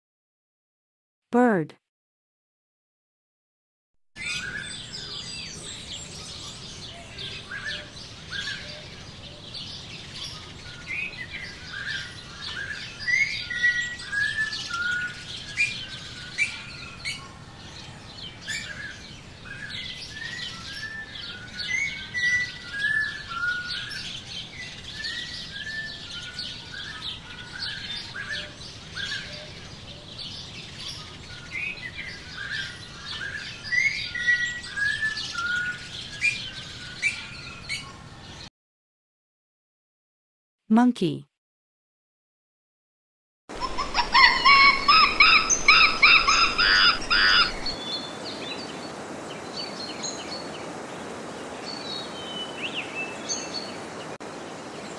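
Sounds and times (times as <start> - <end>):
small songbirds chirping: 4.2 - 38.5, 43.5 - 54.9.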